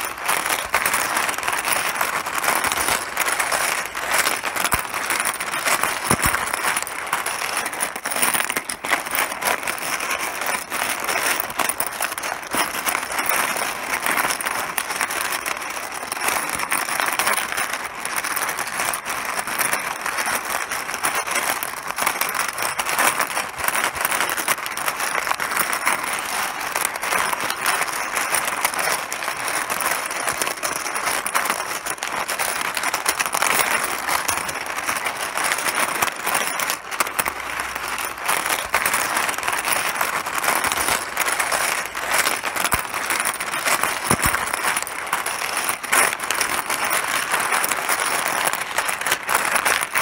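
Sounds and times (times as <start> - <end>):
mahjong tiles clattering: 0.0 - 50.0.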